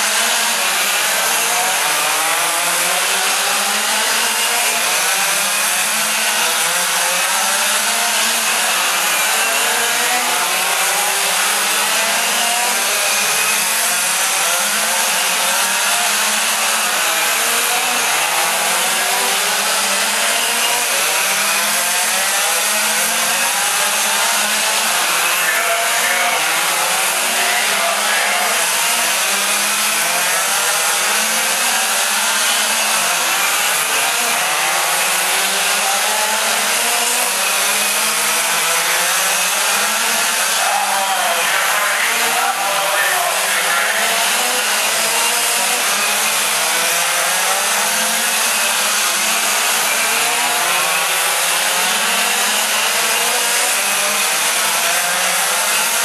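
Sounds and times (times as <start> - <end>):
small two-stroke engines buzzing: 0.0 - 56.0.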